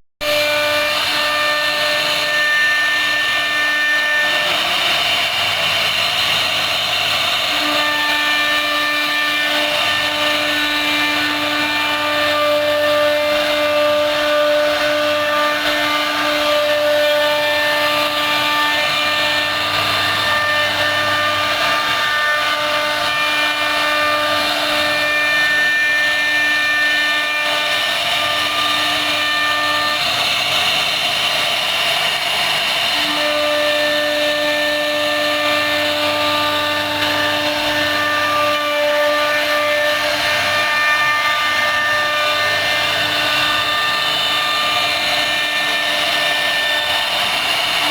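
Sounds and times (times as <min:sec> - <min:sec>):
router spindle cutting wood: 0:00.2 - 0:47.9.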